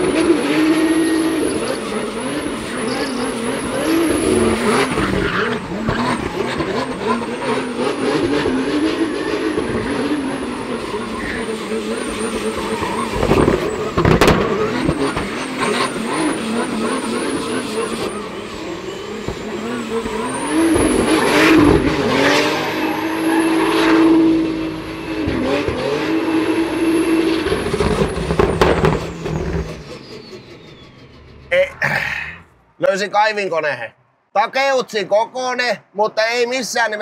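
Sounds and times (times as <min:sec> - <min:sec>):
car engine revving: 0:00.0 - 0:32.8
loud engine bursts: 0:00.0 - 0:32.8.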